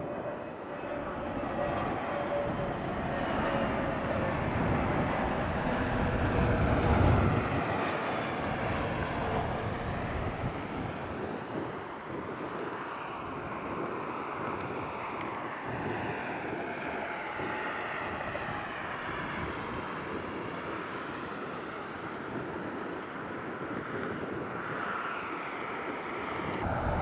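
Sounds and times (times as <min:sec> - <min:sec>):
faint gliding whine: 0:00.0 - 0:27.0
jet airliner engines roaring: 0:00.0 - 0:27.0.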